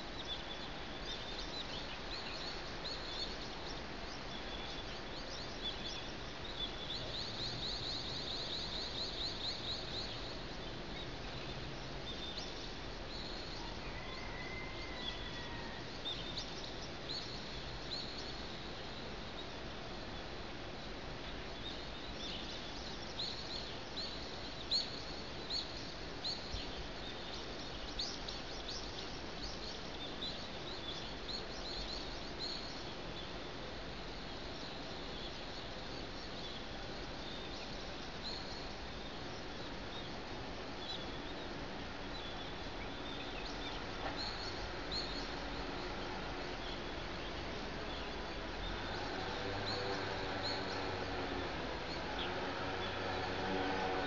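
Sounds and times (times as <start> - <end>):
city background noise: 0.0 - 54.0
small birds chirping: 0.0 - 54.0.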